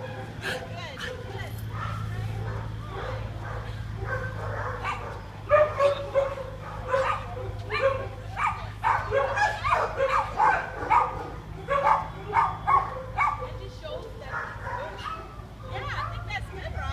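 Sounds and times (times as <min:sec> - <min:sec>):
dogs barking: 0:00.0 - 0:16.9.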